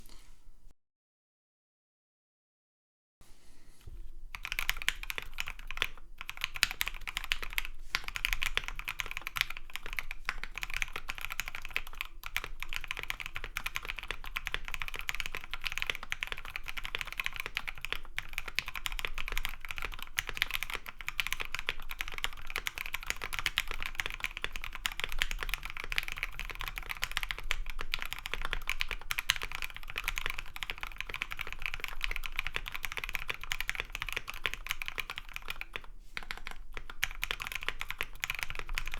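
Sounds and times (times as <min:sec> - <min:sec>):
fast typing on mechanical keyboard: 0:04.3 - 0:38.9.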